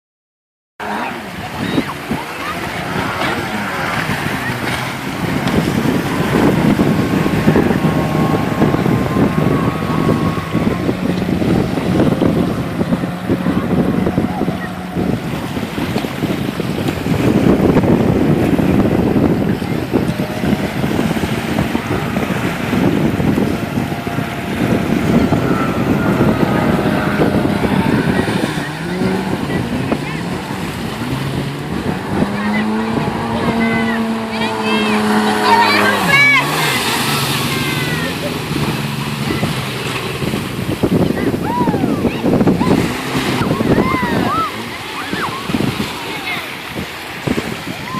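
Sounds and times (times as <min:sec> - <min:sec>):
jet ski engine running: 0:00.8 - 0:47.9
wind buffeting microphone: 0:00.8 - 0:47.9.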